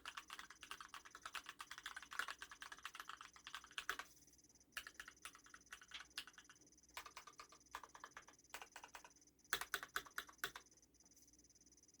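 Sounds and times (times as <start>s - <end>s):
keyboard typing: 0.0s - 4.1s, 4.8s - 10.7s.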